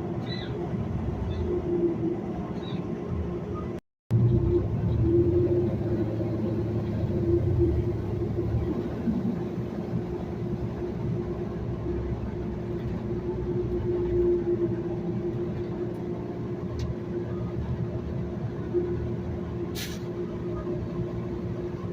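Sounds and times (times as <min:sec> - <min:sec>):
bus engine rumble: 0:00.0 - 0:21.9.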